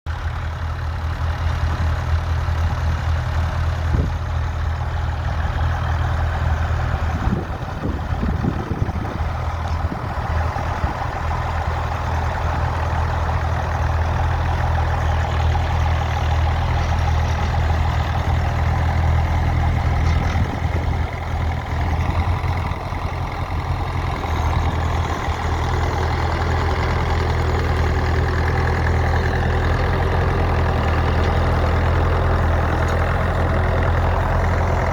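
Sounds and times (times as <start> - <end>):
tractor engine droning: 0.1 - 34.9.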